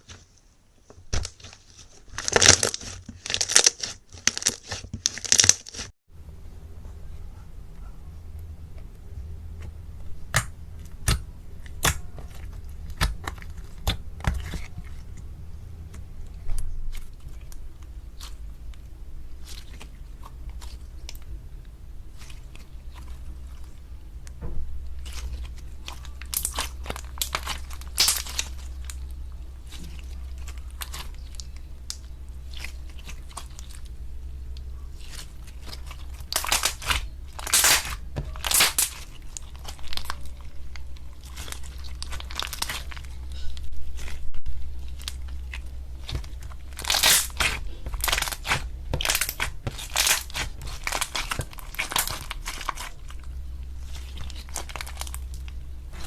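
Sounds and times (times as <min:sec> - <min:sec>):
slime crunching crackles: 0:00.0 - 0:05.9, 0:09.6 - 0:56.0
low hum: 0:06.1 - 0:56.0.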